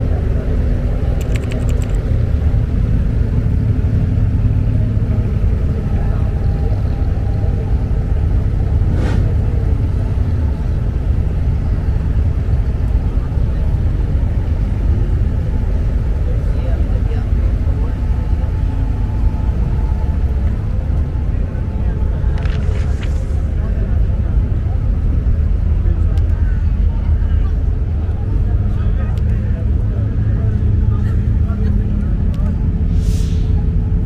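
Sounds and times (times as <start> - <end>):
boat engine rumbling: 0.0 - 34.0.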